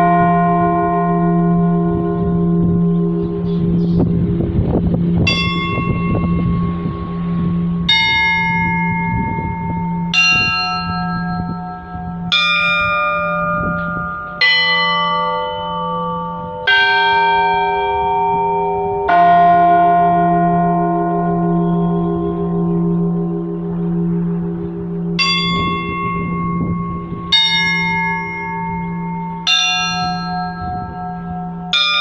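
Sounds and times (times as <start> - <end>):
big bell humming: 0.0 - 32.0
church bell strokes: 0.0 - 32.0.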